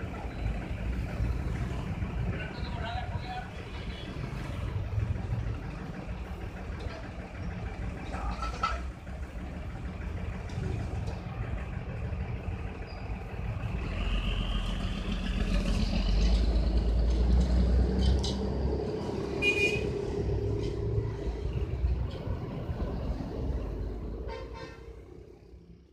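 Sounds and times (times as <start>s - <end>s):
road traffic rumble: 0.0s - 25.9s.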